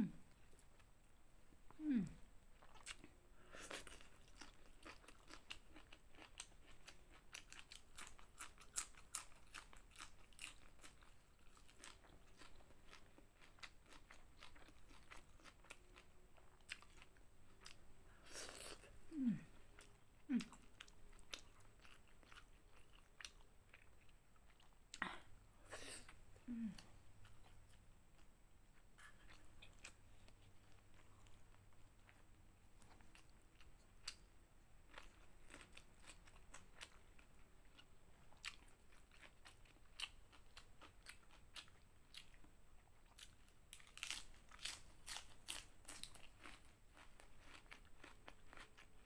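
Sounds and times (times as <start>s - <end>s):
chewing and crunching vegetables: 1.6s - 25.3s, 26.0s - 49.0s.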